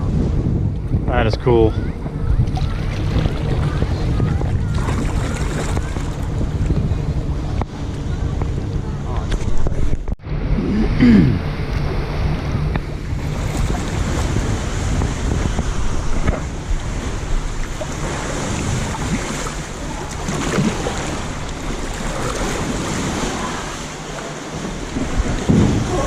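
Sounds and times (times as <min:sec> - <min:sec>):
waves washing around kayak: 0:00.0 - 0:26.0
wind buffeting microphone: 0:00.0 - 0:26.0.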